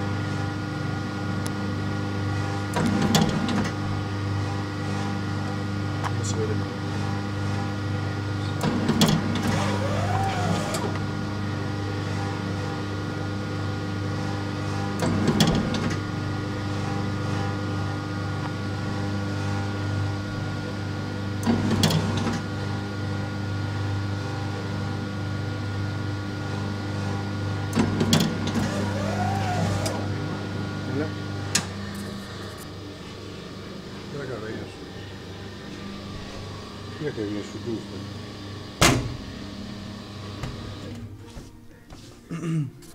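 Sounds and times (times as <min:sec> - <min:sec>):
machine motor hum: 0:00.0 - 0:25.6, 0:26.2 - 0:41.5.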